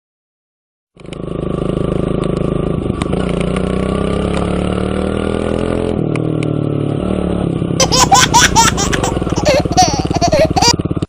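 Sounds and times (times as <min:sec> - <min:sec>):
motorcycle engine running: 0:01.0 - 0:11.0.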